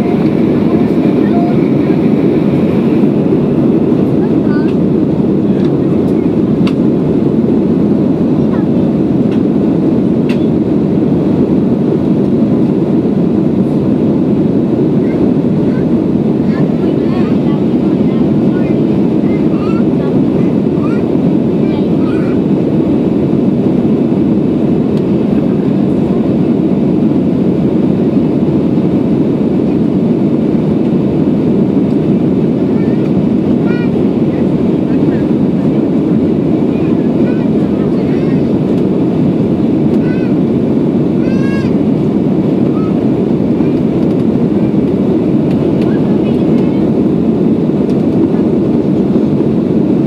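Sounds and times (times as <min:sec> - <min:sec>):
jet engines roaring in cabin: 0:00.0 - 0:50.0.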